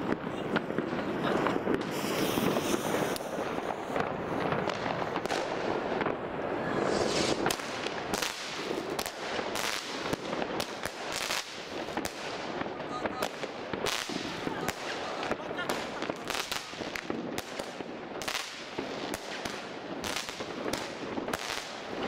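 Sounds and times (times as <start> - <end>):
firework cracks and pops: 0.0 - 22.0
firework rushing hiss: 0.0 - 22.0.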